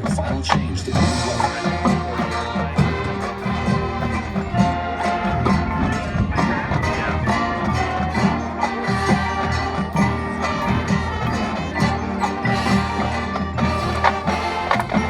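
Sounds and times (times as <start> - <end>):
marching band playing: 0.0 - 15.0
ringing mallet percussion: 1.0 - 15.0.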